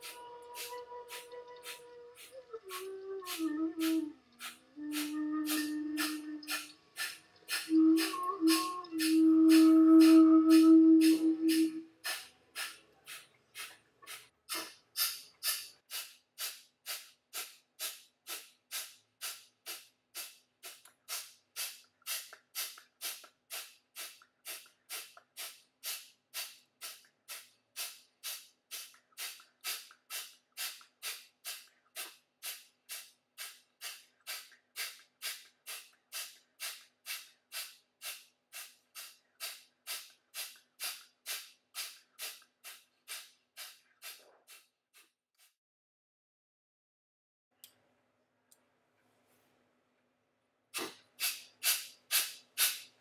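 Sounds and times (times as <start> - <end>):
forceful nasal exhalations: 0.0 - 45.1, 50.8 - 53.0.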